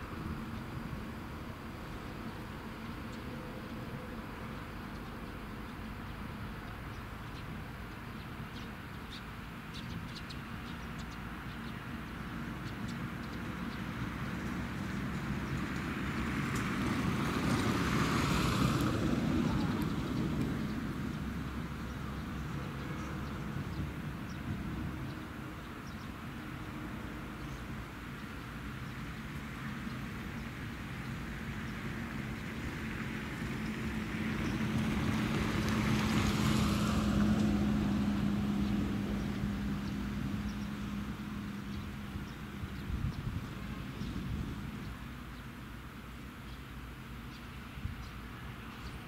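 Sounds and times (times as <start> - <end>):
passing motor vehicle rumble: 0.0 - 49.0.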